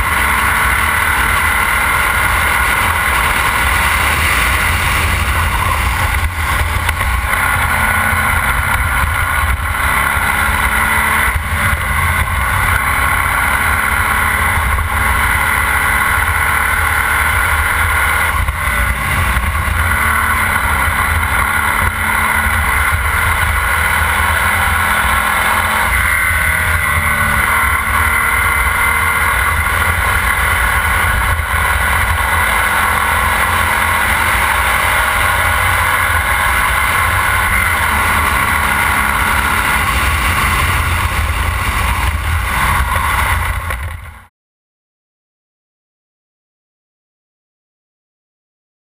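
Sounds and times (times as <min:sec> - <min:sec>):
race car engine at speed: 0:00.0 - 0:44.3.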